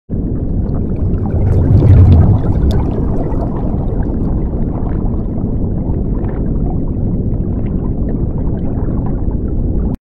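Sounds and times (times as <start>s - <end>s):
bubbling and gurgling: 0.1s - 10.0s
deep underwater rumble: 0.1s - 10.0s.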